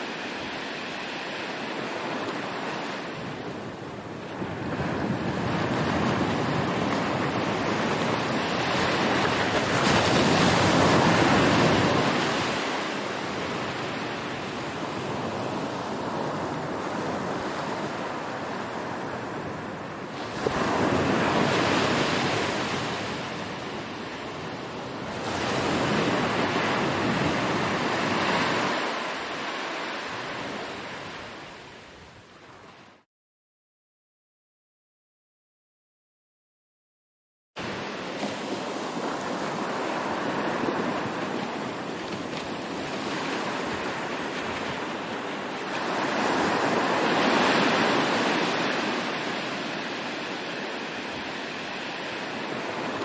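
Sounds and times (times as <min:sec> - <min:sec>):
sea waves breaking: 0:00.0 - 0:32.9, 0:37.6 - 0:53.0.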